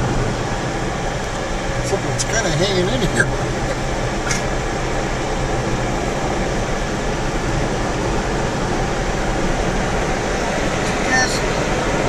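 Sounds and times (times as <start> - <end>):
car driving interior rumble: 0.0 - 12.0.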